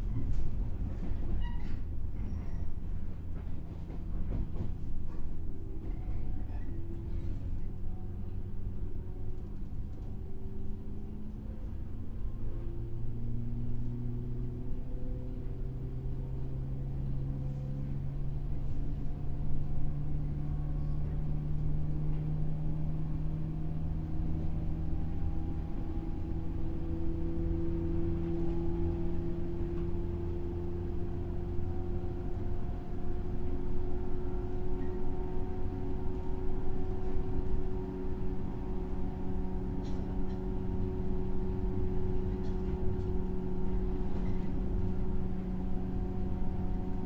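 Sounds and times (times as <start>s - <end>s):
electric train motor rumble and whine: 0.0s - 47.0s.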